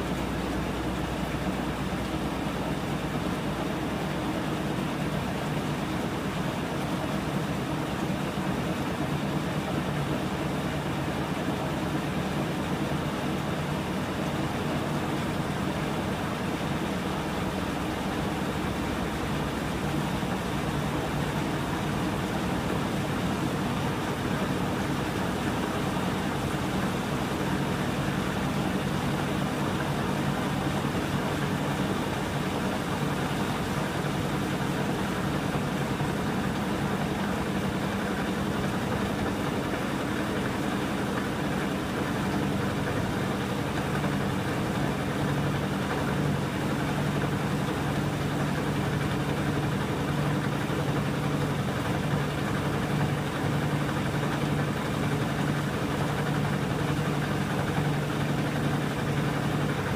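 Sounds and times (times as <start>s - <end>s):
washing machine drum spinning: 0.0s - 59.9s.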